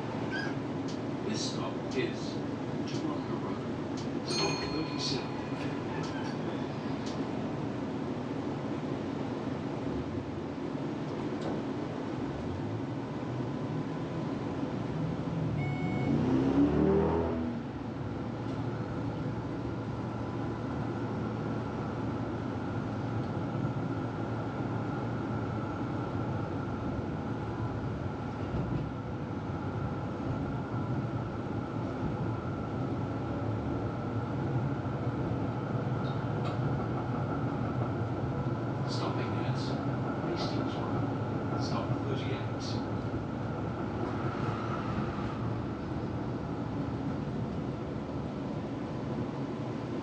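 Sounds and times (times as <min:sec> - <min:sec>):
tram rumbling along track: 0:00.0 - 0:50.0
tram whine: 0:00.0 - 0:50.0.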